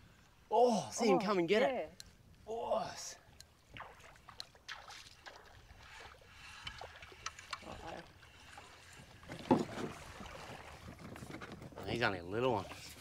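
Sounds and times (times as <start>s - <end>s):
water trickling and splashing: 2.4s - 13.0s.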